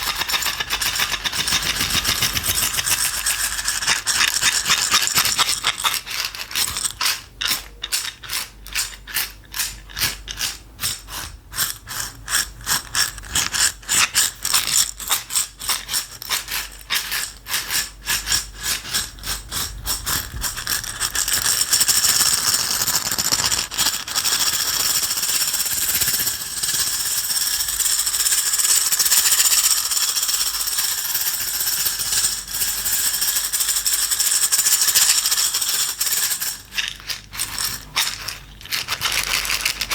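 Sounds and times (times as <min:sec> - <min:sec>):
container of dry pieces rattling: 0:00.0 - 0:39.9.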